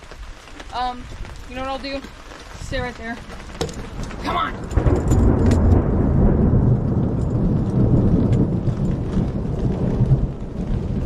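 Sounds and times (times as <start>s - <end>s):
falling rain: 0.0s - 11.0s
thunder rumbling: 0.0s - 11.0s.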